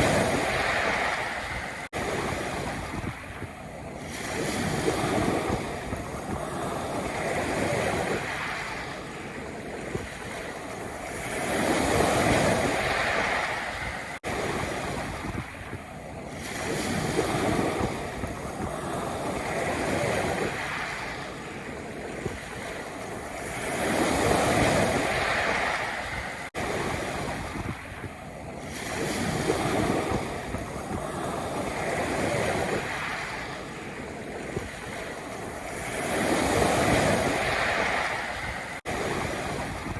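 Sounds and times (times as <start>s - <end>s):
waves breaking on pebble beach: 0.0s - 39.9s.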